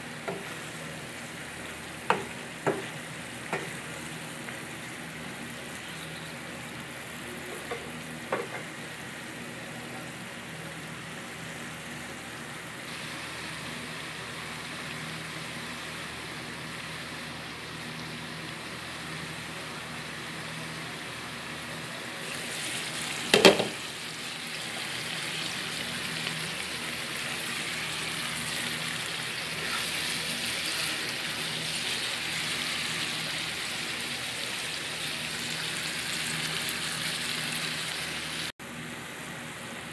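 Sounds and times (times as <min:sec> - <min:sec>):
food sizzling in a wok: 0:00.0 - 0:39.6.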